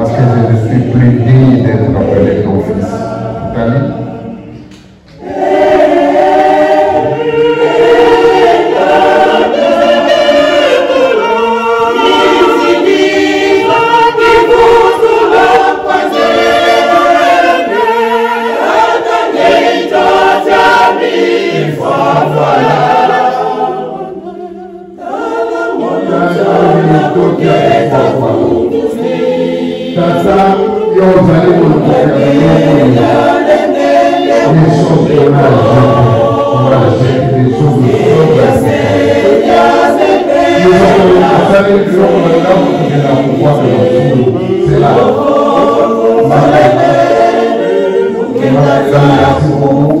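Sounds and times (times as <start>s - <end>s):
church choir singing a hymn: 0.0s - 50.0s.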